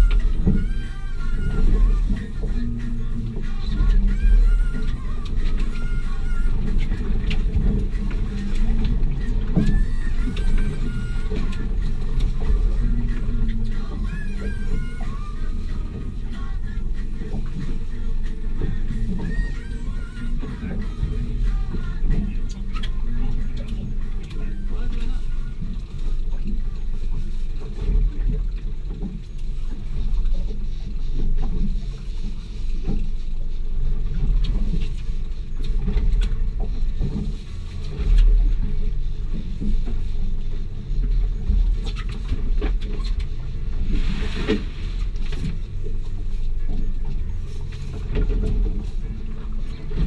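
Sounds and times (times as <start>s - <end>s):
low rumble aboard boat: 0.0s - 50.0s.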